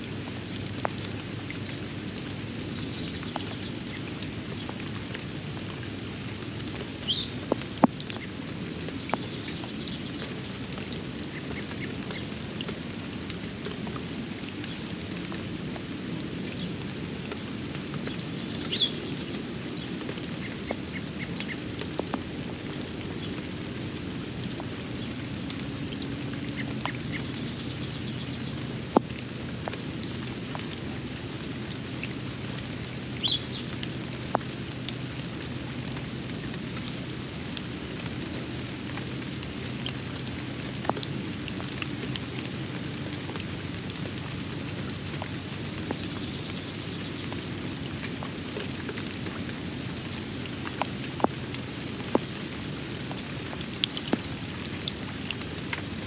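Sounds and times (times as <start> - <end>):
sharp ticks of raindrops: 0.0 - 56.0
steady rain falling: 0.0 - 56.0.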